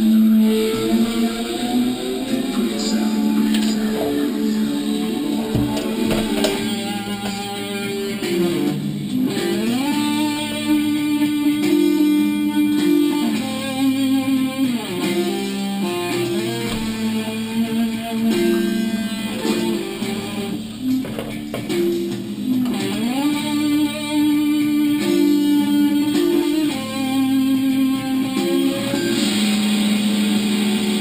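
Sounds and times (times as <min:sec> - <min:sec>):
electric guitar music: 0:00.0 - 0:31.0.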